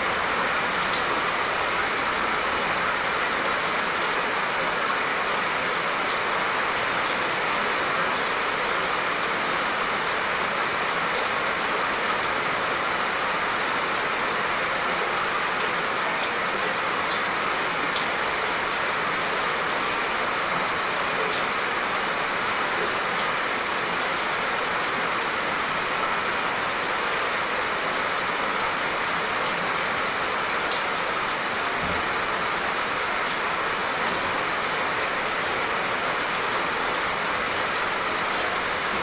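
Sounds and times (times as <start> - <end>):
light rain falling: 0.0 - 39.0.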